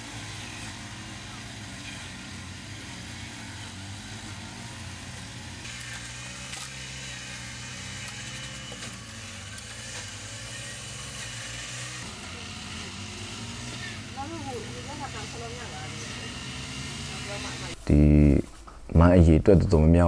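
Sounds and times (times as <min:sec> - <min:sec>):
motor humming: 0:00.0 - 0:17.8.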